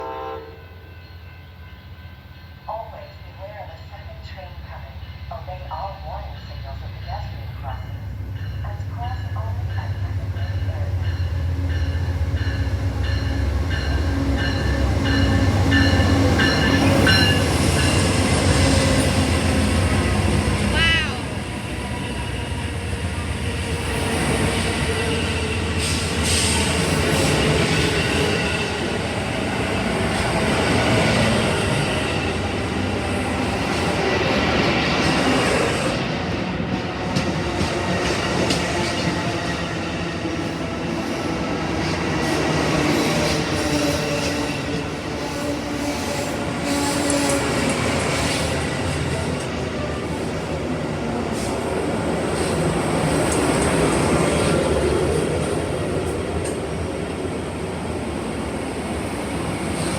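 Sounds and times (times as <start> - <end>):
train cars rolling on rails: 5.4 - 59.9.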